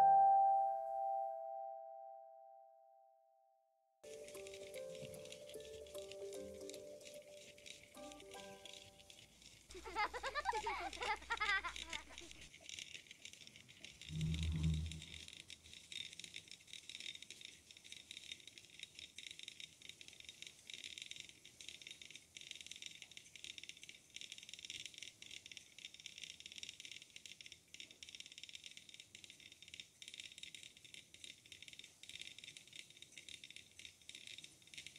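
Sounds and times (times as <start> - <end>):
small gear motor rattling: 4.0 - 34.9.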